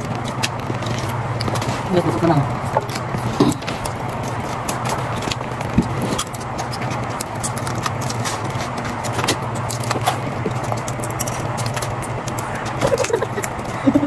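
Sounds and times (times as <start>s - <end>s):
crab shells cracking: 0.0s - 1.9s, 2.5s - 13.9s
steady low hum: 0.0s - 14.0s.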